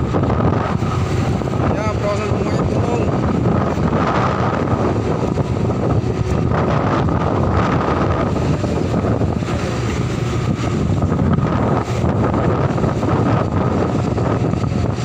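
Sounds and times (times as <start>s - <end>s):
heavy machinery drone: 0.0s - 15.0s
wind buffeting microphone: 0.0s - 15.0s.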